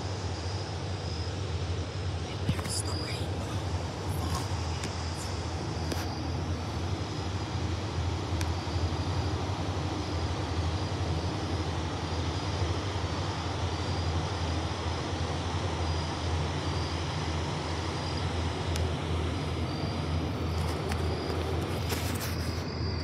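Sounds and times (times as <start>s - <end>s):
diesel engines low rumble: 0.0s - 23.0s.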